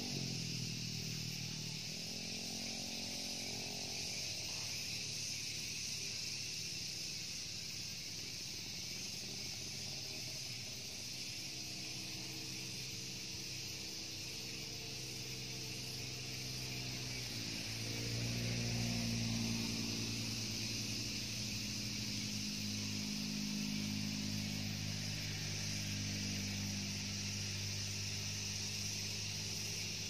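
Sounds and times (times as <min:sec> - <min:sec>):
insect buzzing: 0:00.0 - 0:30.0.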